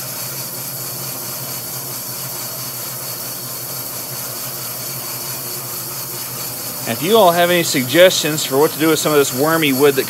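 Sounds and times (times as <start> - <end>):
bandsaw sawing log: 0.0 - 10.0.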